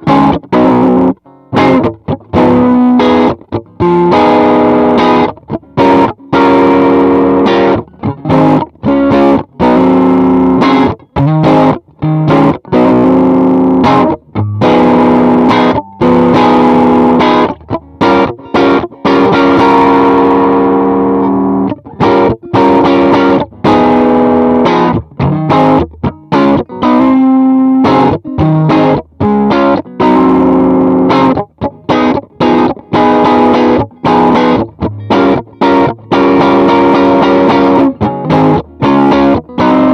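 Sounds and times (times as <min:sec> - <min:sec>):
overdriven electric guitar: 0:00.0 - 0:39.9.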